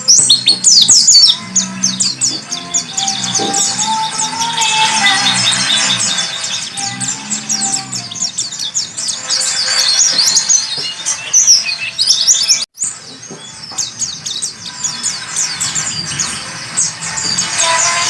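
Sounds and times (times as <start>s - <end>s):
bird twittering and trilling: 0.0s - 18.0s.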